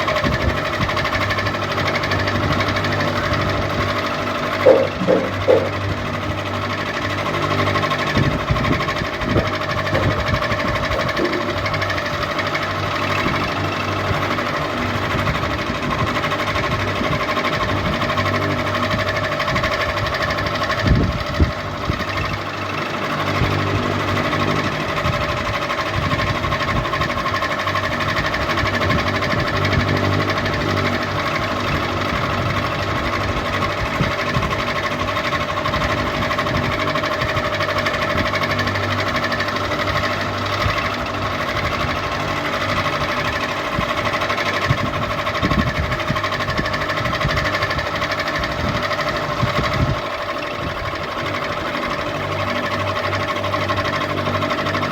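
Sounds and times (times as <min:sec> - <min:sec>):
ceiling fan whirring: 0:00.0 - 0:54.9.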